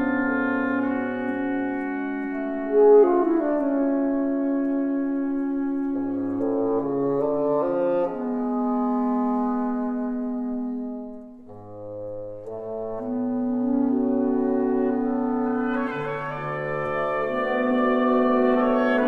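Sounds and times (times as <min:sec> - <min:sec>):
reed quintet playing held chords: 0:00.0 - 0:19.0.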